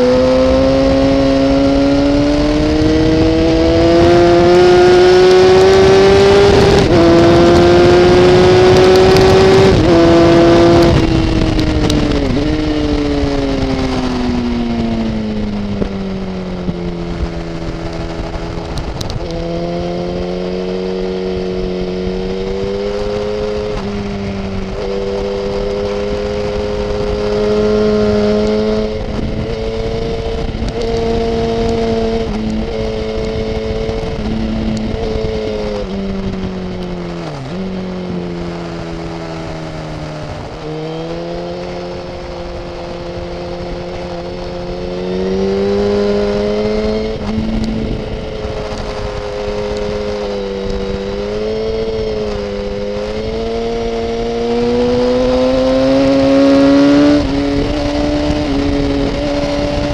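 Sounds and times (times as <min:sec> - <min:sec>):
motorcycle engine: 0:00.0 - 0:59.9
wind rush: 0:00.0 - 0:59.9.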